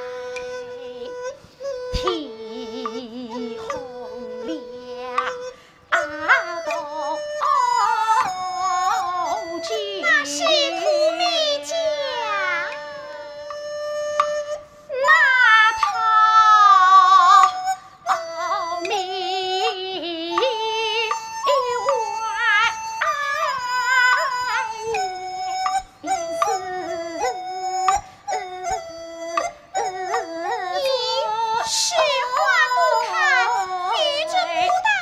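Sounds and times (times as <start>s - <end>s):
high female opera singing: 0.0s - 13.6s, 14.9s - 28.8s, 29.8s - 35.0s.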